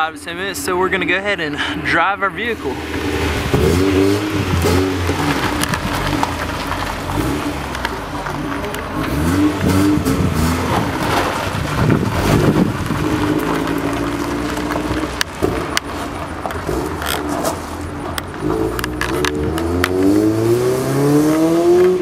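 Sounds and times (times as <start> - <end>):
car engine revving: 1.6 - 22.0.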